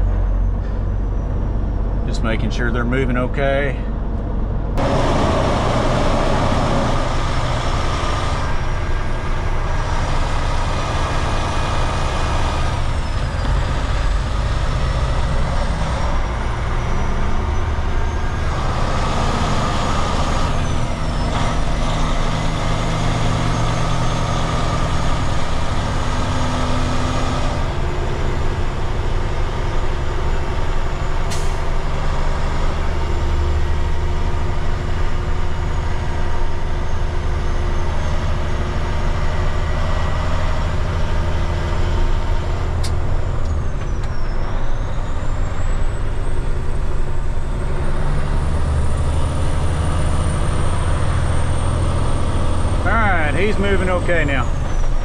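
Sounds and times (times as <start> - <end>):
diesel engine running: 0.0 - 55.0
road noise: 0.0 - 55.0.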